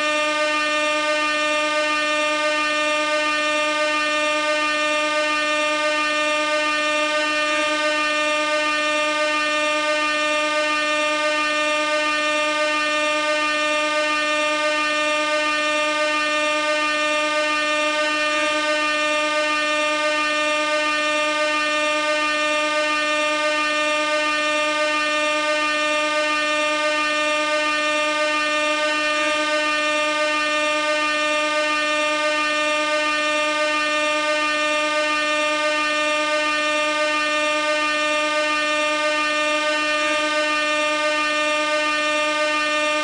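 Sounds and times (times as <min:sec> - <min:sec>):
gas air horn blast: 0:00.0 - 0:43.0.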